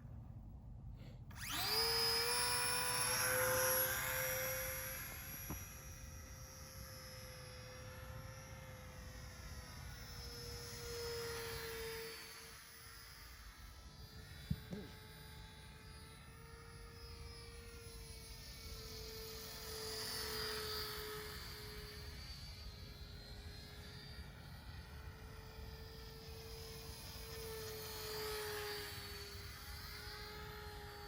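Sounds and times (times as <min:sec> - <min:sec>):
model plane motor humming: 0:01.3 - 0:31.0.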